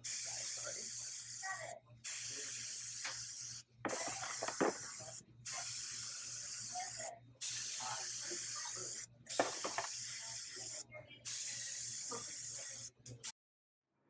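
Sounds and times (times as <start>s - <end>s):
airbrush spraying hiss: 0.0s - 13.0s.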